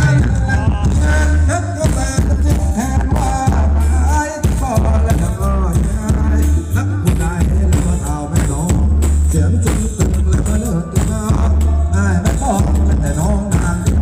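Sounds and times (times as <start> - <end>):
heavy bass beat: 0.0 - 14.0.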